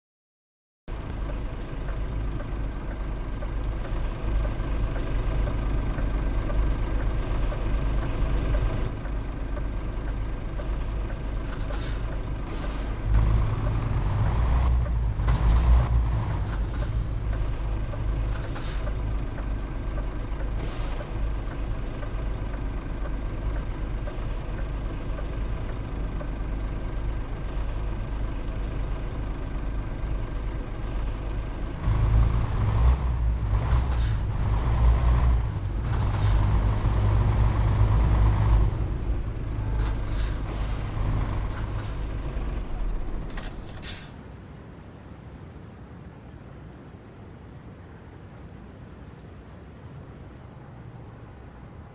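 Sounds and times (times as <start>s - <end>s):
truck engine running: 0.9s - 44.1s.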